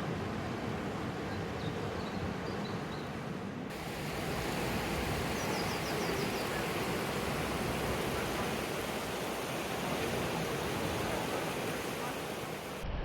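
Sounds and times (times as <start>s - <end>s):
rushing river water: 0.0s - 12.8s.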